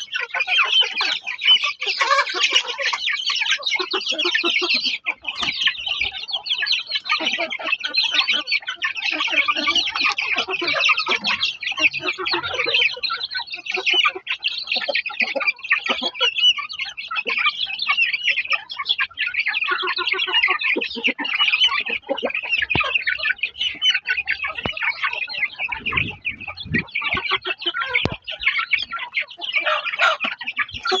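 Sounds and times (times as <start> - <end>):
chickens clucking: 0.0 - 31.0
chicks peeping: 0.0 - 31.0.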